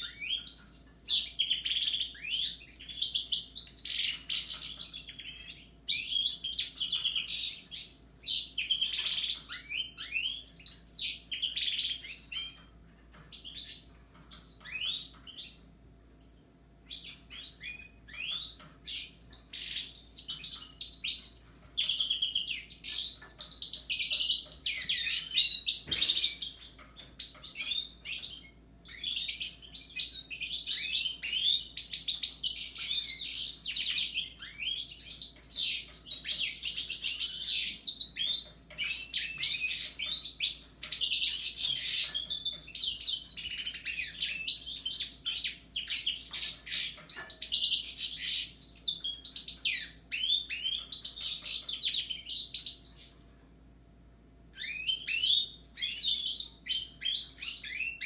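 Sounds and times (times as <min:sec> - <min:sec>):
birds twittering and trilling: 0:00.0 - 0:58.0.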